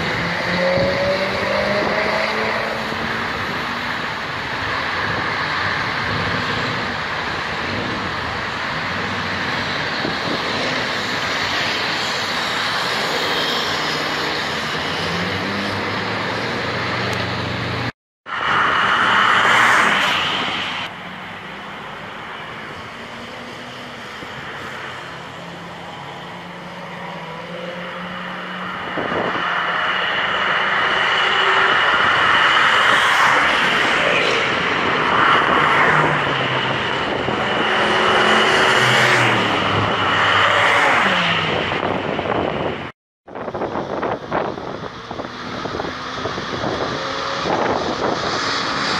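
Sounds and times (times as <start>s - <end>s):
race cars passing fast: 0.0s - 48.9s.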